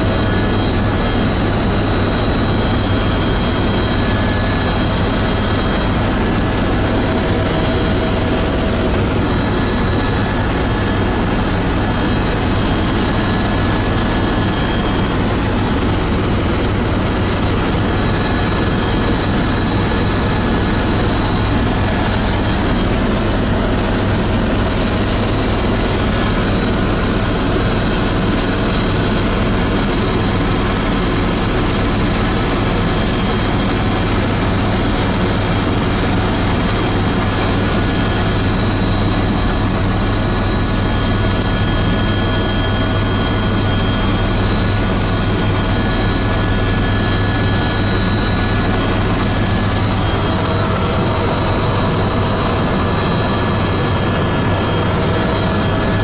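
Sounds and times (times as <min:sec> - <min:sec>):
helicopter low drone: 0:00.0 - 0:56.0.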